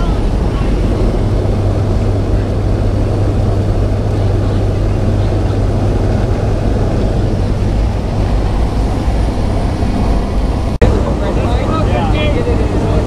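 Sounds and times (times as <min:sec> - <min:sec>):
plane engine and propeller drone: 0:00.0 - 0:13.0.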